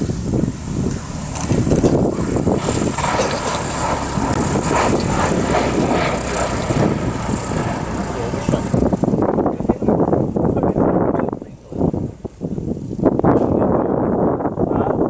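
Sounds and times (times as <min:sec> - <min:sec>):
model airplane droning: 0:00.0 - 0:15.0
wind rumble on microphone: 0:00.0 - 0:15.0.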